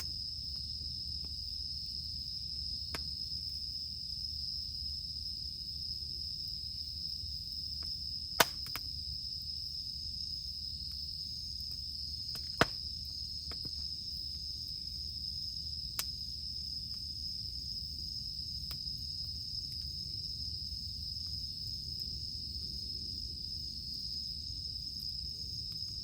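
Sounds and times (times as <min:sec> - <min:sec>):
campfire crackling and popping: 0:00.0 - 0:04.0, 0:07.4 - 0:22.8, 0:23.4 - 0:26.0
cicadas droning: 0:00.0 - 0:26.0.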